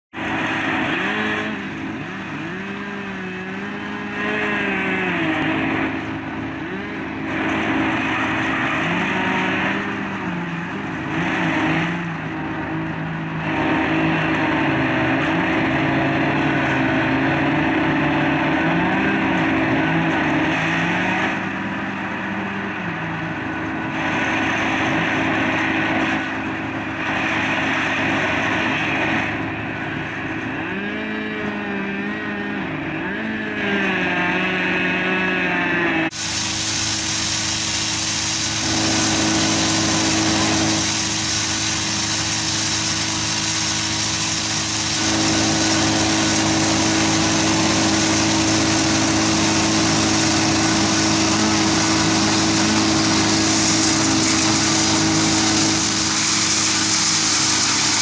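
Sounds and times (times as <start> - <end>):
wood chipper engine running: 0.0 - 58.0
chainsaws cutting wood: 0.2 - 29.6, 30.2 - 58.0.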